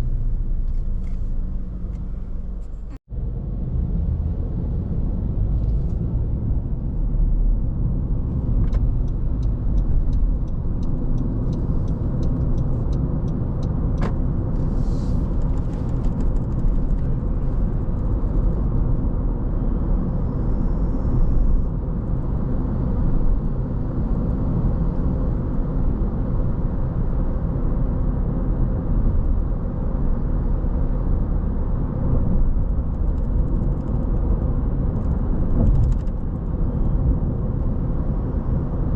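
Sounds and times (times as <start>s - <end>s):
car tyres and engine rumble: 0.0s - 38.9s.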